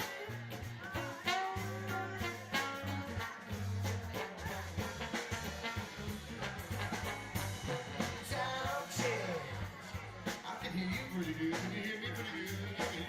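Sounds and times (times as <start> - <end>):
held bass notes: 0.0 - 13.0
live band playing: 0.0 - 13.0.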